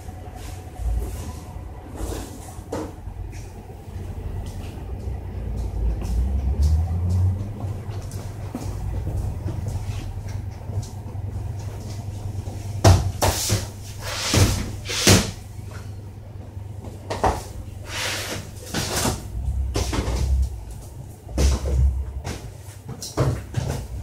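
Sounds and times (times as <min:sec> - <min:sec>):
steady low rumble: 0:00.0 - 0:14.0, 0:15.4 - 0:22.6.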